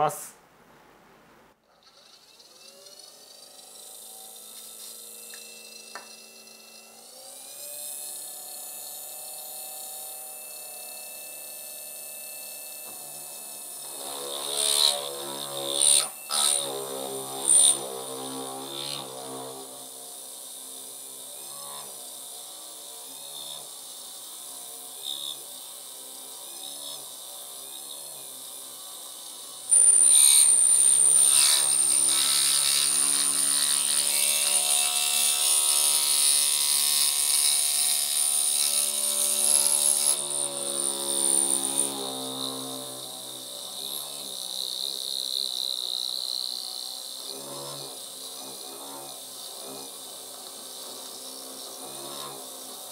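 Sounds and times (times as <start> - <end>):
drill cutting metal: 1.7 - 52.9
milling spindle whine: 1.7 - 52.9.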